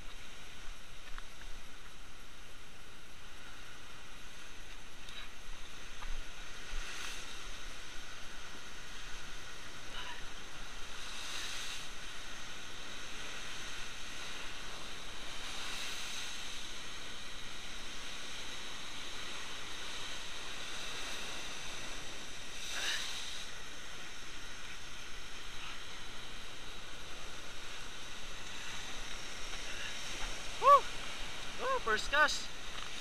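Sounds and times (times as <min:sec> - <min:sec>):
ocean surf crashing on rocks: 0:00.0 - 0:33.0.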